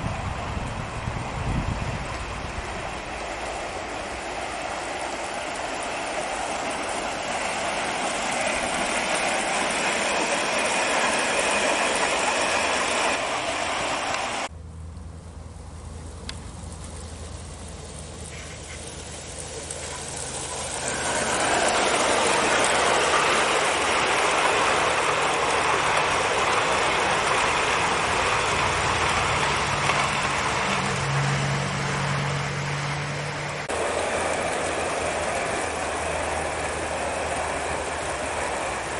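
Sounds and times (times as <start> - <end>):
model train wheels rattling on rail: 0.0 - 14.5, 16.0 - 38.9.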